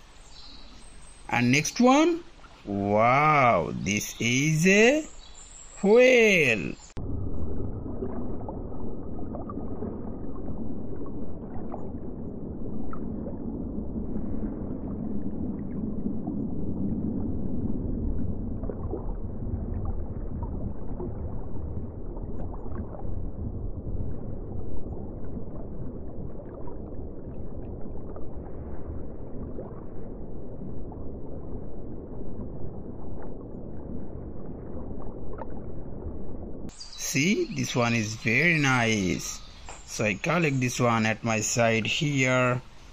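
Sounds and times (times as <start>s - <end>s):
muffled rush of water: 0.0s - 42.9s.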